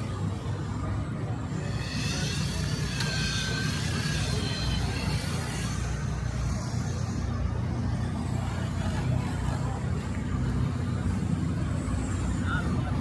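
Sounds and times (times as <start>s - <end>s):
engines rumbling: 0.0s - 13.0s.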